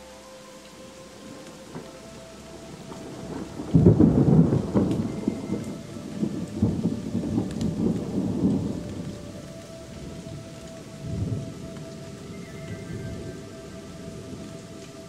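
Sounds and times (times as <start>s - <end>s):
steady rain: 0.0s - 15.0s
thunder clap rolling: 1.5s - 15.0s.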